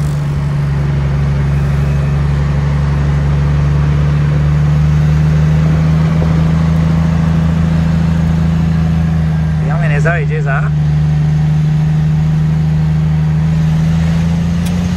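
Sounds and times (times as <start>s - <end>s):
road and wind noise: 0.0s - 14.9s
truck diesel engine droning: 0.0s - 14.9s.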